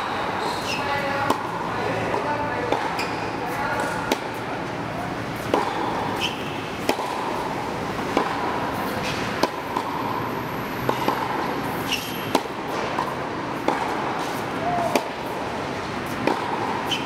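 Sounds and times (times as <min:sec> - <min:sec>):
background noise: 0:00.0 - 0:17.0
tennis balls bouncing on hard court: 0:00.7 - 0:04.5, 0:05.4 - 0:17.0
tennis balls struck by rackets: 0:00.7 - 0:17.0.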